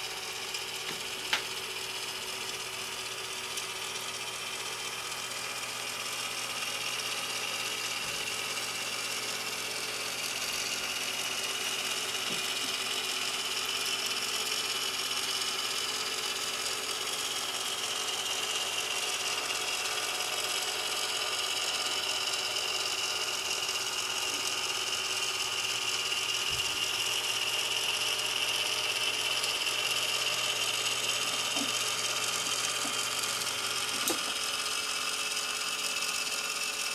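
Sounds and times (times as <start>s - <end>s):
motor and gears whirring: 0.0s - 36.9s.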